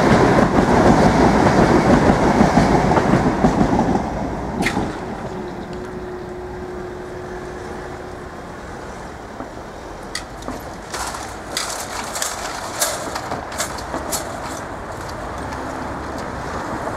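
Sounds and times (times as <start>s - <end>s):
tyres clacking over rail track: 0.0s - 6.3s, 7.5s - 16.9s
traffic hum: 1.5s - 16.9s.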